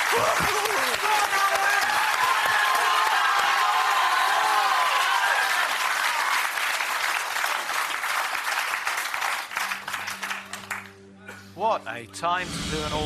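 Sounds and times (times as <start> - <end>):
audience applauding and cheering: 0.0 - 11.0.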